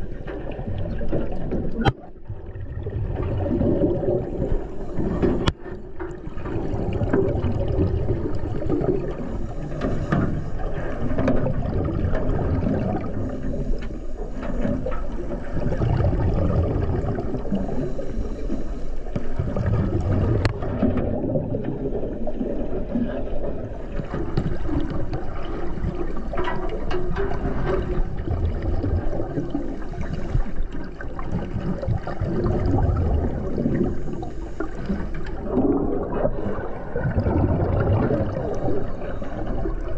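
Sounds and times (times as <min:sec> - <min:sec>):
muffled underwater churning rumble: 0:00.0 - 0:39.9
underwater bubbling: 0:00.0 - 0:39.9.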